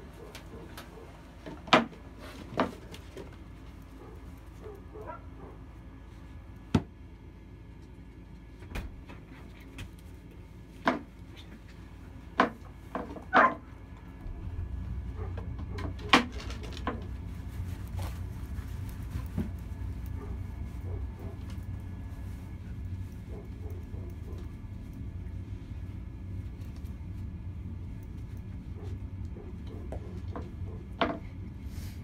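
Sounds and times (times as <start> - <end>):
low steady rumble: 0.0 - 32.0.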